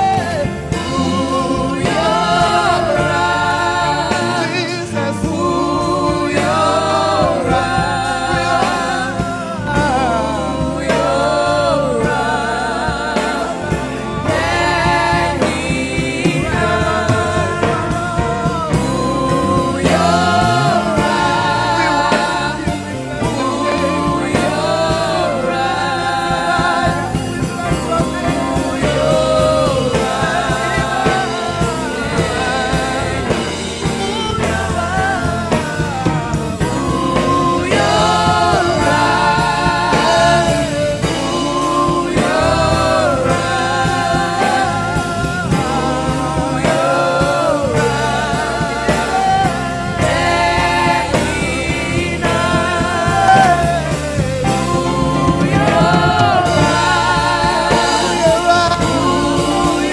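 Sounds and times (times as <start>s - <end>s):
backing singers: 0.0s - 59.9s
band with drums and keyboard: 0.0s - 59.9s
man singing lead: 0.0s - 59.9s.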